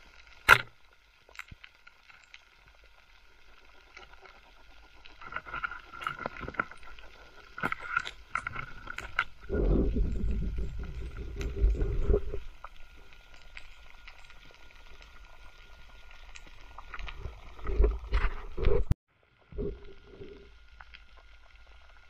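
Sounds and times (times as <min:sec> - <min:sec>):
quiet underwater hiss: 0:00.0 - 0:22.0
water rushing and bubbling: 0:00.0 - 0:22.0.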